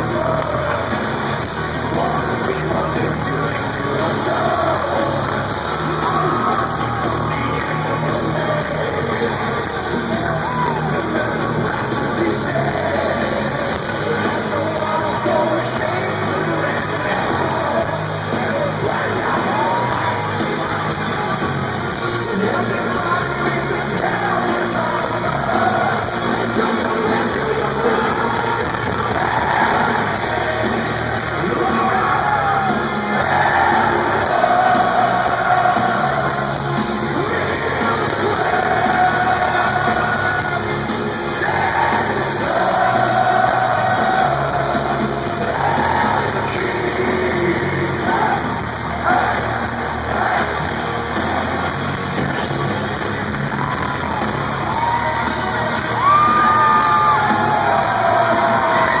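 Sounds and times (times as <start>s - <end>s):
crowd yelling: 0.0s - 59.0s
heavy metal band playing: 0.0s - 59.0s.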